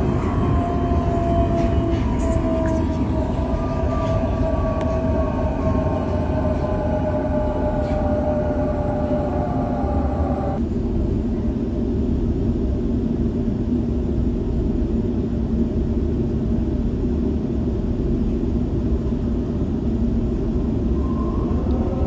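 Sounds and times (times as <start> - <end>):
constant hum: 0.0 - 22.0
electric train rumble: 0.0 - 22.0.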